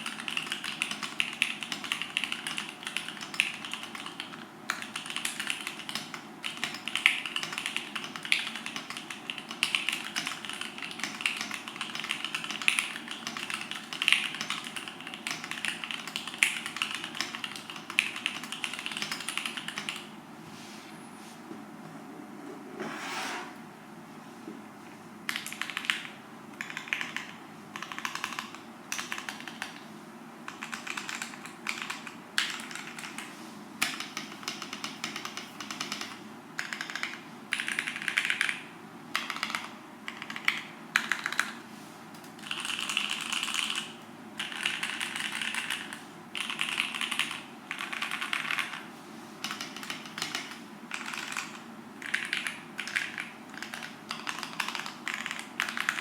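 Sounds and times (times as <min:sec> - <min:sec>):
mechanical keyboard typing: 0:00.0 - 0:20.1, 0:25.3 - 0:29.8, 0:30.5 - 0:41.6, 0:42.2 - 0:48.8, 0:49.4 - 0:56.0.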